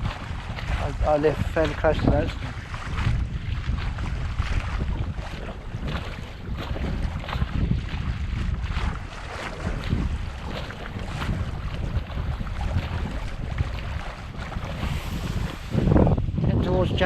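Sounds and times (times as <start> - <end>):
water rushing along a hull: 0.0 - 17.0
wind buffeting microphone: 0.0 - 17.0.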